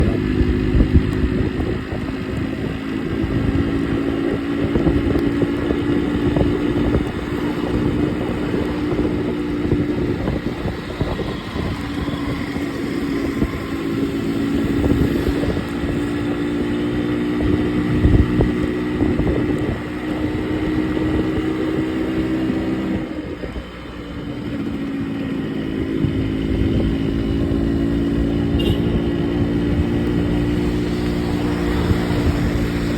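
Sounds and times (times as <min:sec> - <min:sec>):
two-stroke engine running: 0:00.0 - 0:32.9.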